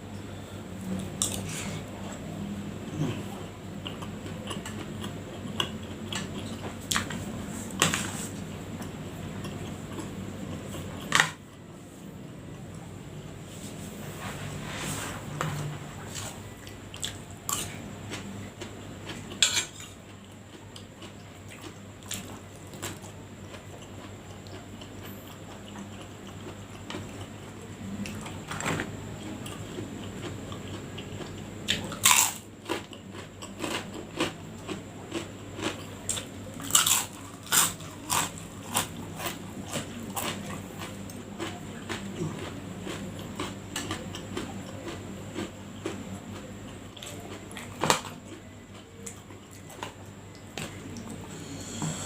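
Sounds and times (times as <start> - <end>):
chewing: 2.9 - 7.8, 8.8 - 11.2, 16.0 - 28.6, 29.2 - 51.4.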